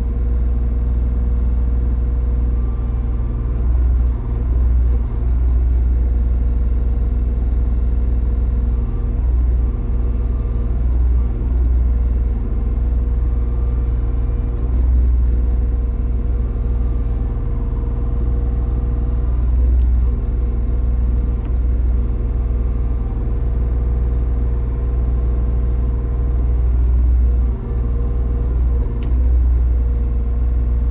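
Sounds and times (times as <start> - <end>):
diesel engine rumbling: 0.0 - 30.9.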